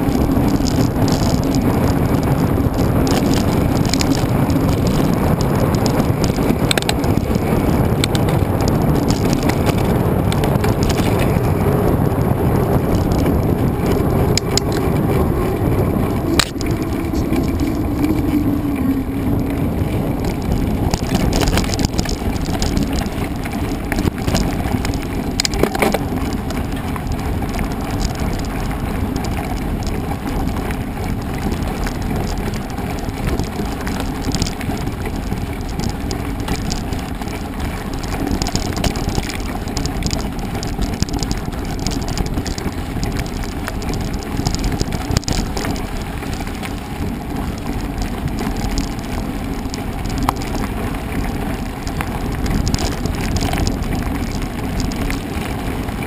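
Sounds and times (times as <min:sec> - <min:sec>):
bike rattles and knocks: 0:00.0 - 0:56.0
bike tyres rolling: 0:00.0 - 0:56.0.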